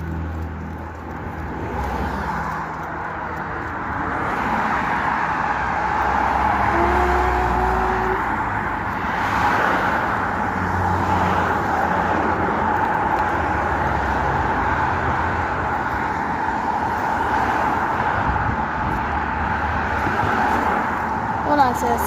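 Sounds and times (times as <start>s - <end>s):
cars going by: 0.0s - 22.0s.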